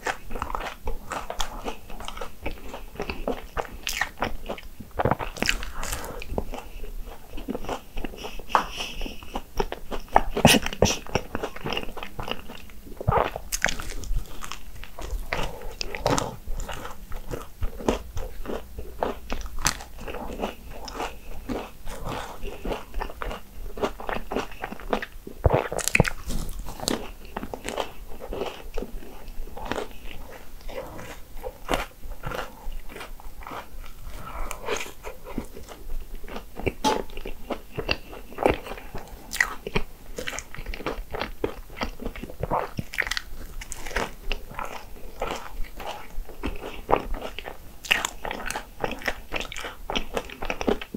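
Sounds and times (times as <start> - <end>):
crunchy biting and chewing: 0.0 - 50.9.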